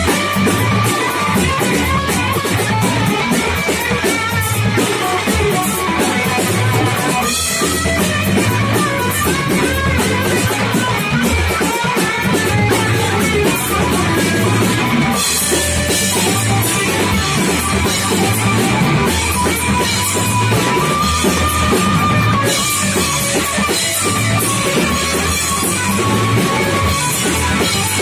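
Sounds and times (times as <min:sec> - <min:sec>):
drum kit: 0:00.0 - 0:28.0
electric guitar: 0:00.0 - 0:28.0.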